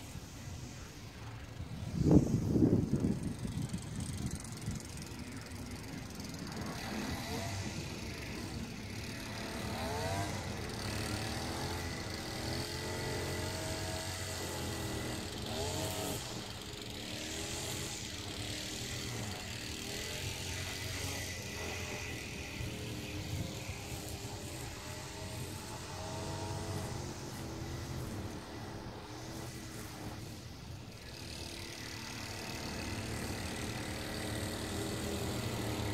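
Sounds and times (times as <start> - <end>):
string trimmer engine revving: 1.8 - 35.9.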